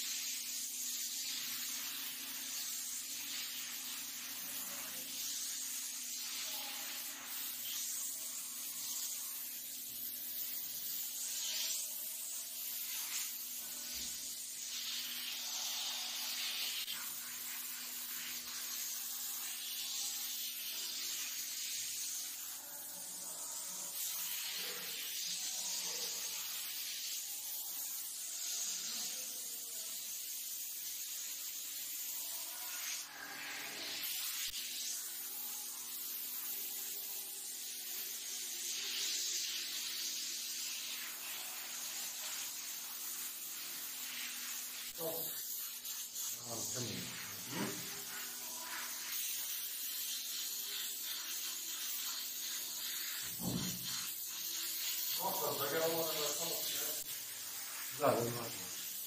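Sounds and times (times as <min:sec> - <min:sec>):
paint spray gun hissing: 0:00.0 - 0:59.0.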